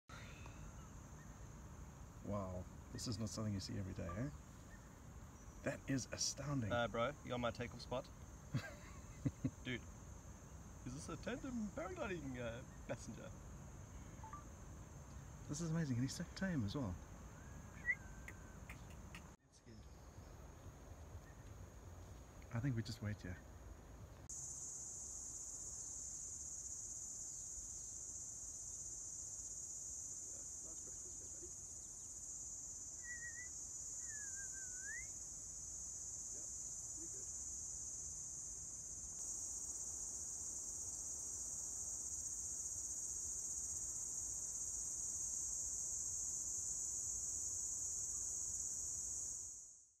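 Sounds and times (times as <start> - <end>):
insects chirring: 0.1 - 50.0.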